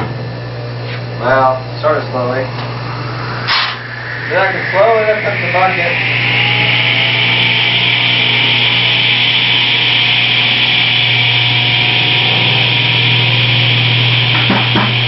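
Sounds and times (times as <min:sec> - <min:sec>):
table saw running: 0:01.2 - 0:15.0.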